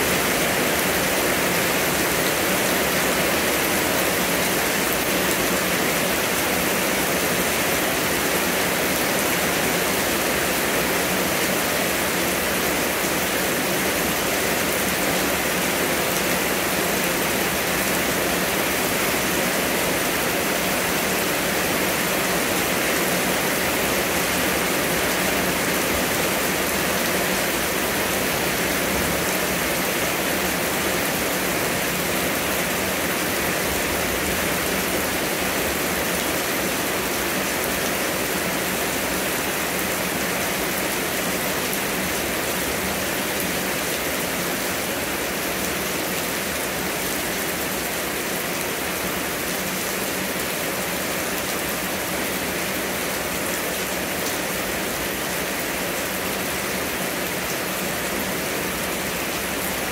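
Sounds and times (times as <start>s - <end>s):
heavy rain on leaves: 0.0s - 59.9s.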